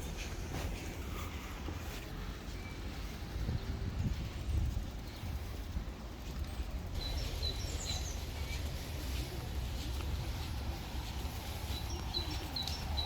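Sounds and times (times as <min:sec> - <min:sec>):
low outdoor rumble: 0:00.0 - 0:13.0
small birds chirping: 0:00.1 - 0:13.0.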